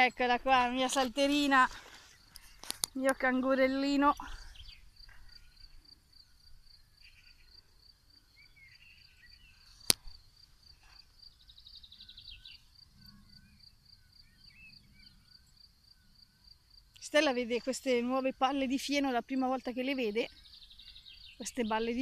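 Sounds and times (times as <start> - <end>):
bird chirps: 0.0 - 22.0
insects chirping: 0.0 - 22.0.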